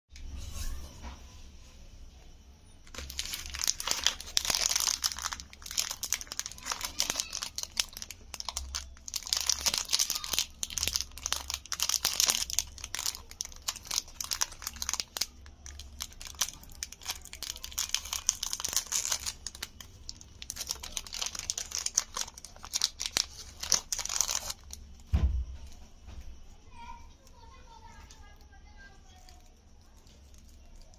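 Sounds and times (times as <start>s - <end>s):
plastic wrapper crinkling and tearing: 2.8s - 25.1s, 27.1s - 30.9s.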